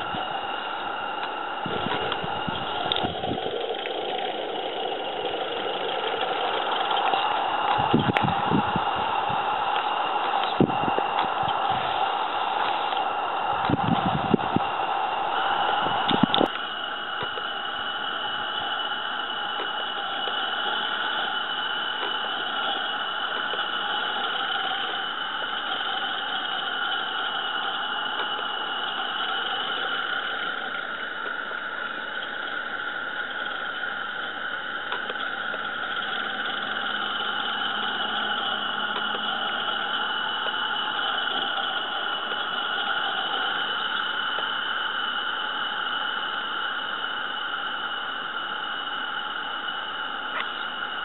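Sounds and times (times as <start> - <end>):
steam hissing with whistling tones: 0.0 - 51.0.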